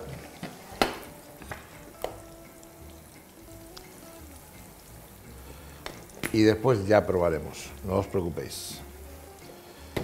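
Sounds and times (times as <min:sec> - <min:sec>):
onion and garlic frying in oil: 0:00.0 - 0:10.0.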